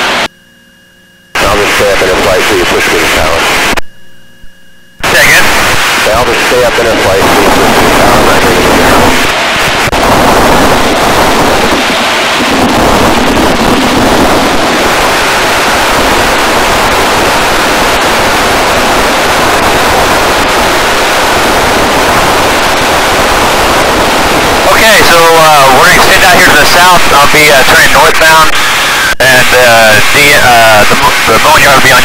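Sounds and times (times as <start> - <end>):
airplane wind and engine noise: 1.4 - 3.8, 5.0 - 32.0.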